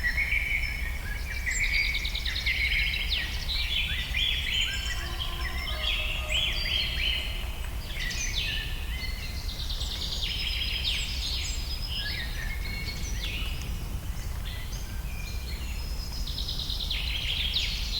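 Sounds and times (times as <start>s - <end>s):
birds singing and chirping: 0.0s - 17.9s.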